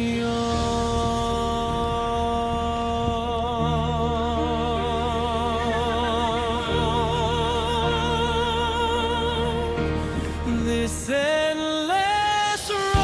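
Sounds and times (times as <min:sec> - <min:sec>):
sustained instrumental accompaniment: 0:00.0 - 0:11.8
person singing with vibrato: 0:00.0 - 0:13.0.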